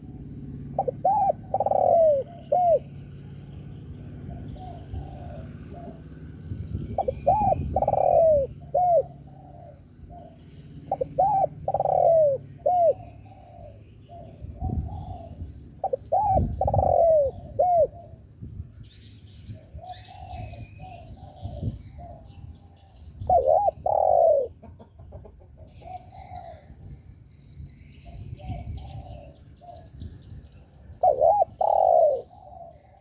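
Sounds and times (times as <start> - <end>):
dove cooing: 0.0 - 18.4, 19.6 - 26.9, 28.0 - 30.1, 30.7 - 33.0
small birds chirping: 0.0 - 33.0.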